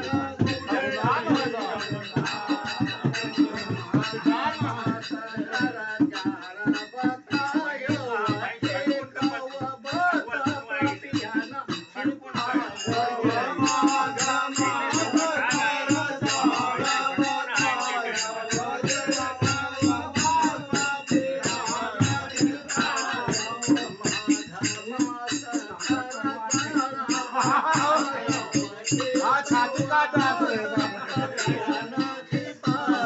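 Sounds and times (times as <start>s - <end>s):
hand drum beating fast rhythm: 0.0s - 33.0s
men singing folk song: 0.0s - 33.0s.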